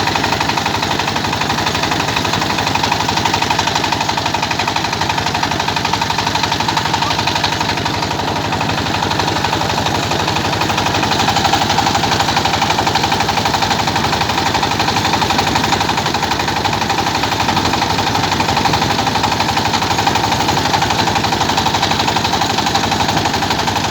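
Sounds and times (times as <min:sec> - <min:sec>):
rice milling machine hammering: 0:00.0 - 0:23.9.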